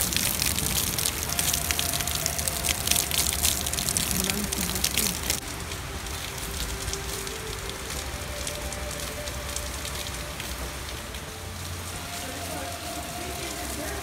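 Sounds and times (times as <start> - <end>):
heavy rain crackle: 0.0 - 14.0
steady rain hiss: 0.0 - 14.0.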